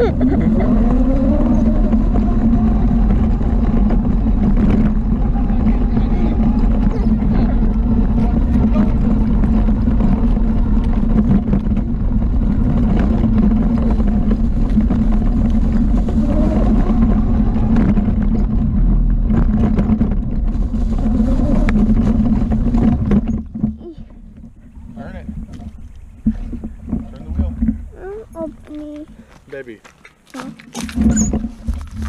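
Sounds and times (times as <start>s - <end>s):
small atv engine running: 0.0s - 29.4s
knocks and rattles: 0.9s - 29.2s.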